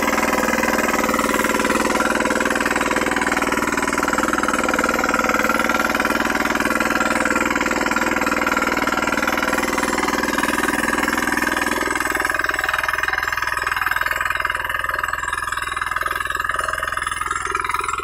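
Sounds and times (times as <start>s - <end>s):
diesel engine knocking under load: 0.0s - 18.0s.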